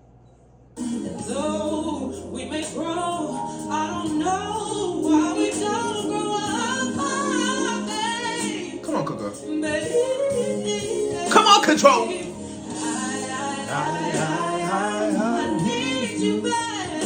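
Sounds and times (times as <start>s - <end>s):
woman singing: 0.8s - 17.0s.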